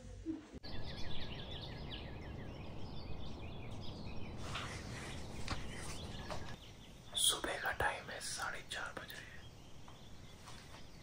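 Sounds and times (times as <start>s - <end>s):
small birds chirping: 0.6s - 11.0s.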